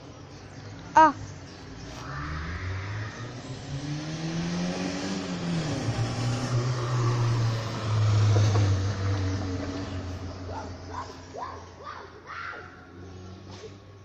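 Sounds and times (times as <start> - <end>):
car engine revving: 1.2 - 14.0.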